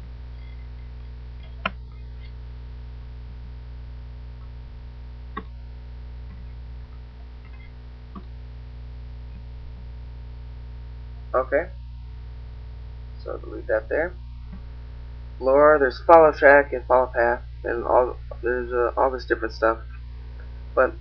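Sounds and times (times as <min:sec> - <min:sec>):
mains hum: 0:00.0 - 0:21.0.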